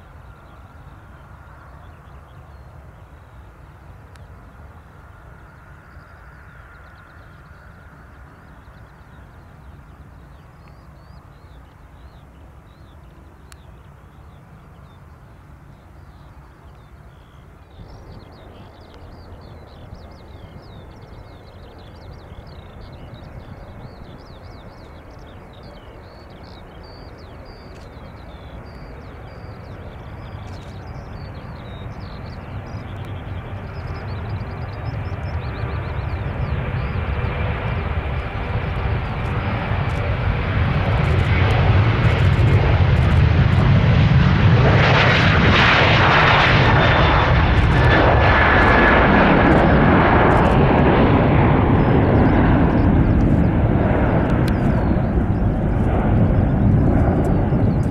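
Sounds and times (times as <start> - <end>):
faint birds chirping: 0.0 - 57.9
jet engines at takeoff: 0.0 - 57.9.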